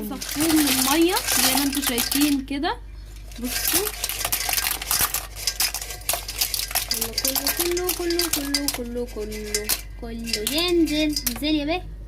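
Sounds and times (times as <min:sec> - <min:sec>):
clam shells clattering: 0:00.0 - 0:02.5, 0:03.1 - 0:11.4.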